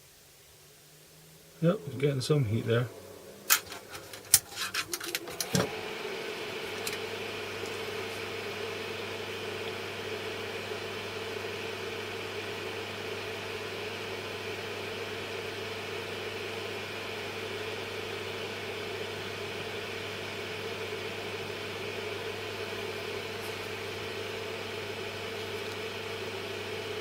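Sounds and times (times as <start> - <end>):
small fan whirring: 0.0 - 27.0.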